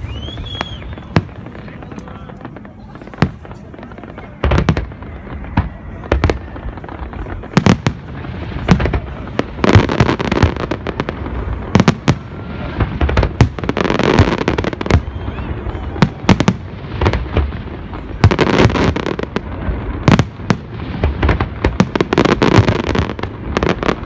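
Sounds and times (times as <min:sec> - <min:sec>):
fireworks bangs and pops: 0:00.0 - 0:24.0.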